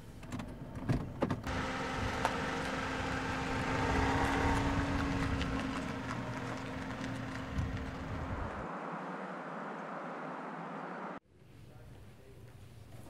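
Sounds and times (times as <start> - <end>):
tyre and road noise: 0.2 - 11.2
car engine humming: 0.4 - 11.2.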